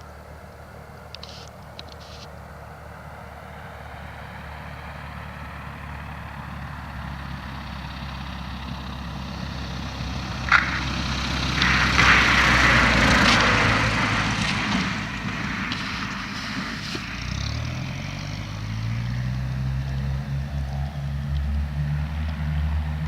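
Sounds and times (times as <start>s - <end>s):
propeller plane engine: 0.0s - 23.0s.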